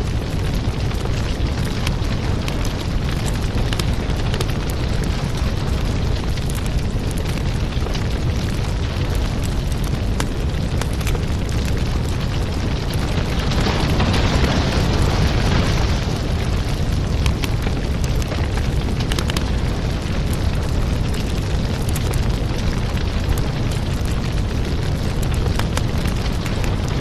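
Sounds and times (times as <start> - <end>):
fire crackling and popping: 0.0 - 27.0
low rumble of burning wood: 0.0 - 27.0.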